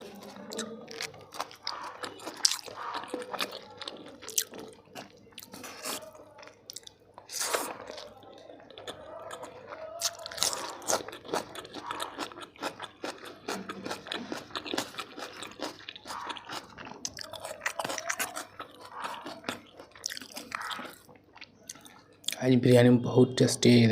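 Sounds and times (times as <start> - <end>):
close-up chewing: 0.0 - 22.4.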